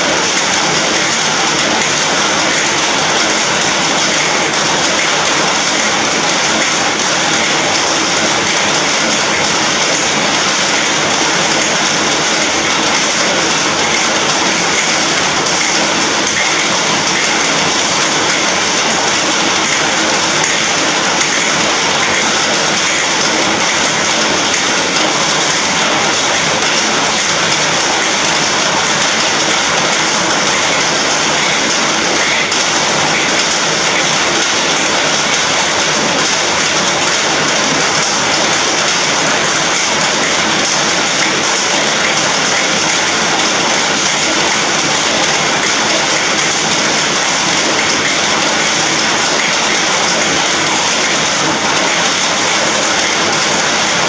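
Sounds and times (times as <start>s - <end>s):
heavy rain on a metal roof: 0.0s - 54.0s.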